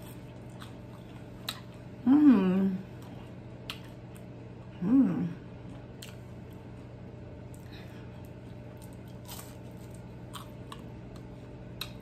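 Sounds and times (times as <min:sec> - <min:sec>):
crunchy food chewing: 0:00.0 - 0:02.0, 0:02.9 - 0:04.7, 0:05.5 - 0:12.0
steady low hum: 0:00.0 - 0:12.0.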